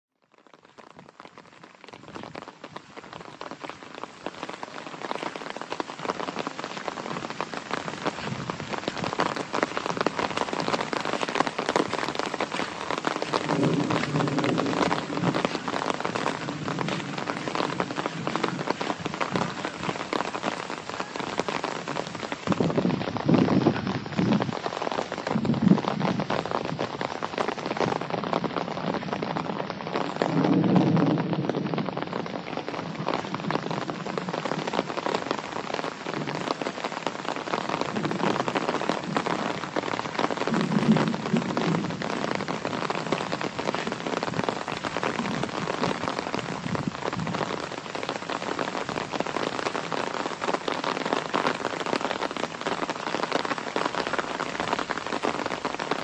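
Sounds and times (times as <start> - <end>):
rain falling: 0.1 - 56.0.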